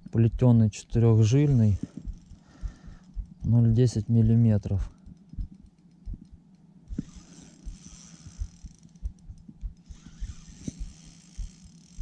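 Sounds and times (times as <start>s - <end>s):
dull low thumps: 0.0s - 12.0s
fishing reel clicking: 1.1s - 12.0s.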